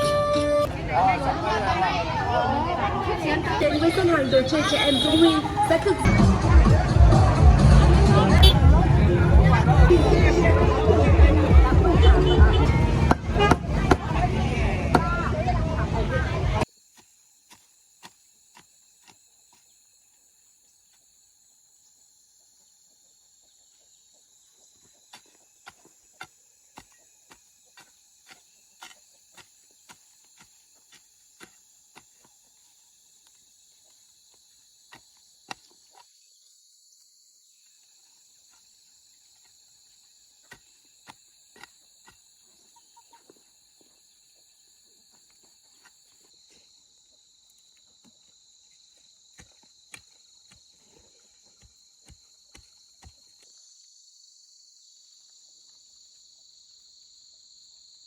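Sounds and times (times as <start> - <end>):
insects trilling: 1.0 - 6.1, 16.6 - 58.0.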